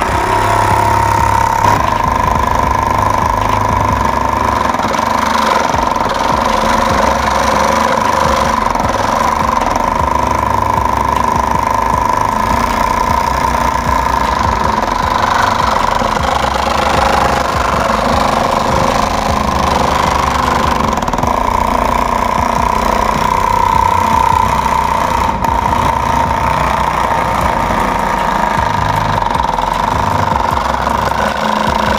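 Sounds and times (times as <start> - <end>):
scroll saw cutting plastic: 0.0 - 31.9.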